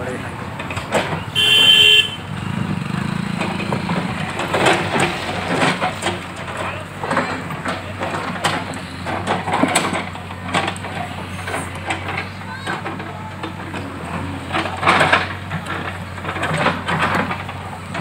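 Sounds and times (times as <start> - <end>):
diesel engine under load: 0.0 - 18.0
clanks and crunches of rubble: 0.2 - 1.3, 2.4 - 18.0.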